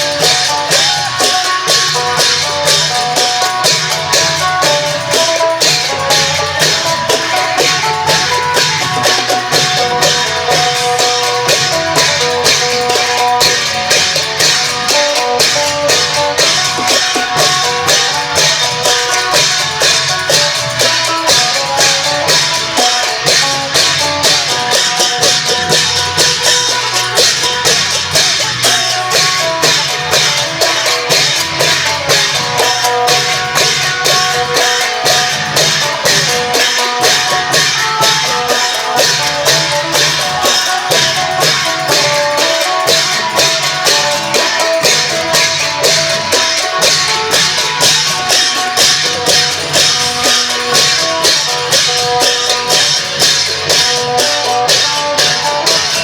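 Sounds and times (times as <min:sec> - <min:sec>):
cymbals: 0:00.0 - 0:56.0
long drums beating: 0:00.0 - 0:56.0.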